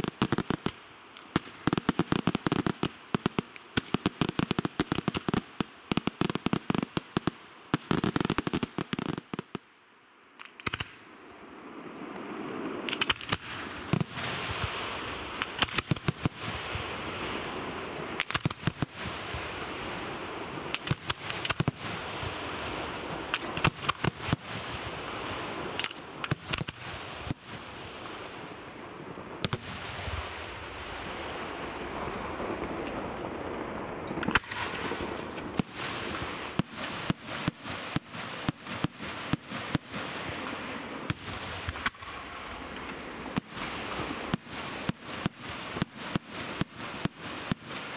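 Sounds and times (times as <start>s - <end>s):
fireworks bursting: 0.0s - 9.7s, 11.6s - 47.9s
steady hiss: 0.0s - 47.9s.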